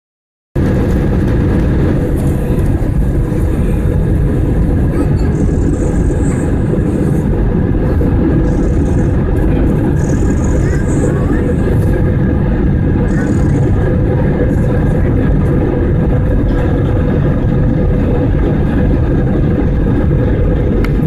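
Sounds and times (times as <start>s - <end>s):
jet engines rumbling: 0.6s - 21.0s.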